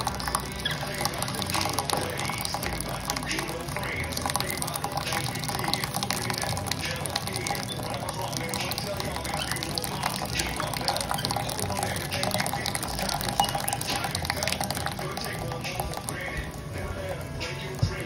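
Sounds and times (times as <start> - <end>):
puree pouring and sloshing: 0.0 - 18.0
wet drips and splashes: 0.0 - 18.0.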